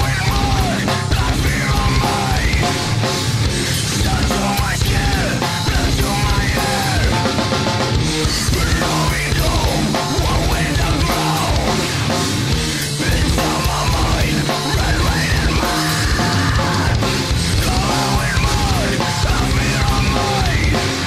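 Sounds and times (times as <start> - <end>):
loud rock music: 0.0 - 21.0.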